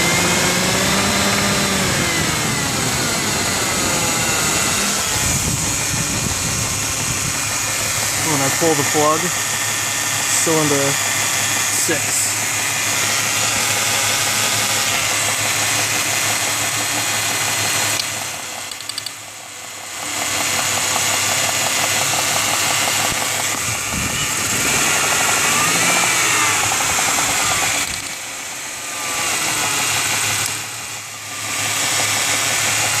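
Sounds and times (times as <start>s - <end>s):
car engine idling and knocking: 0.0s - 33.0s.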